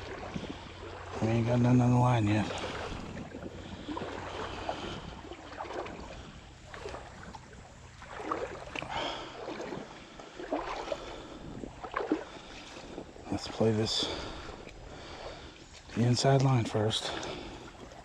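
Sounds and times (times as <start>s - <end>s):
legs wading through stream: 0.0s - 18.0s.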